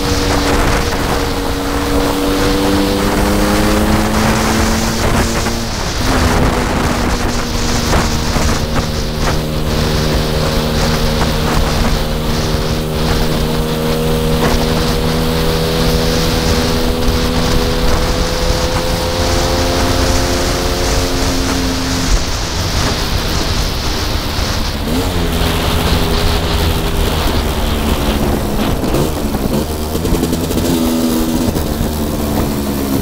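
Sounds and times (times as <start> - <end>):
scooter engine running: 0.0 - 33.0
wind on microphone: 0.0 - 33.0.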